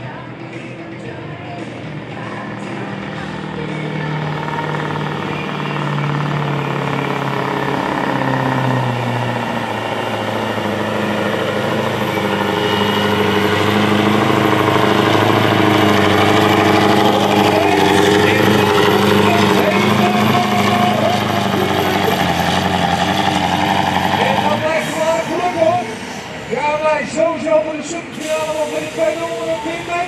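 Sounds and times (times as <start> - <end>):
diesel truck engine under load: 0.0 - 30.0.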